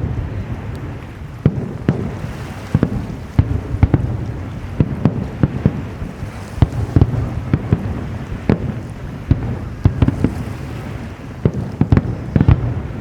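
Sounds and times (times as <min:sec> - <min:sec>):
fireworks bursting: 0:00.0 - 0:13.0
low rumble of echoing explosions: 0:00.0 - 0:13.0.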